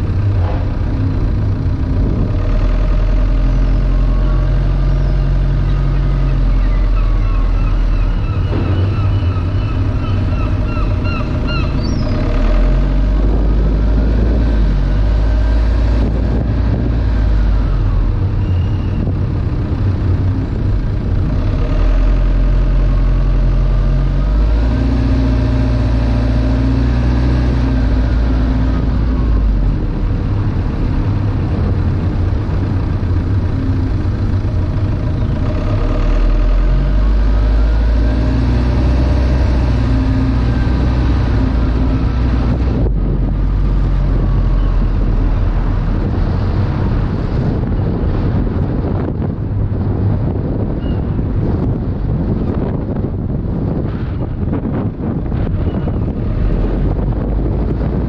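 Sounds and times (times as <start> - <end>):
faint engine whine: 0.0 - 58.0
wind and road noise: 0.0 - 58.0.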